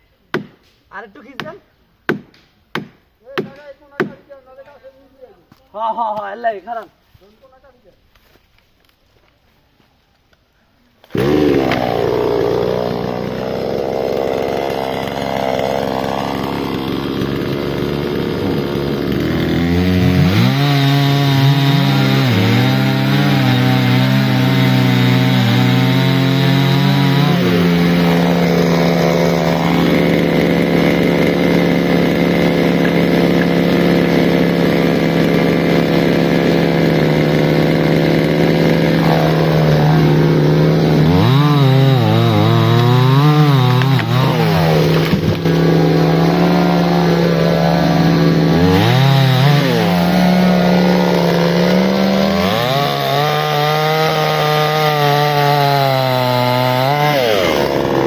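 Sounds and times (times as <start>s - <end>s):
chainsaw cutting wood: 11.0s - 58.0s.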